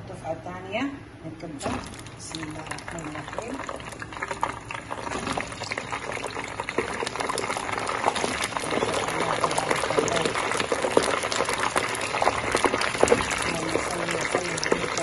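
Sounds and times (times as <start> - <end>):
food deep-frying in oil: 1.6 - 15.0.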